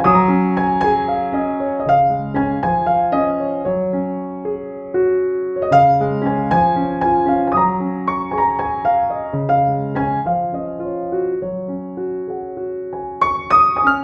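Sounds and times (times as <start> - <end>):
piano melody over chords: 0.0 - 14.0.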